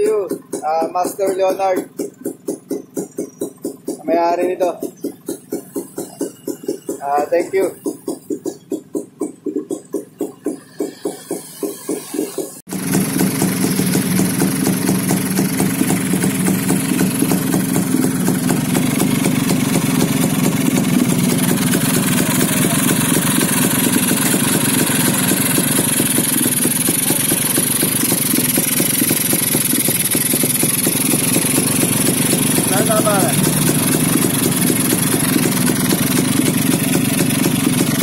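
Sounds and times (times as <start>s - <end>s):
motorcycle engine idling: 0.0s - 38.0s.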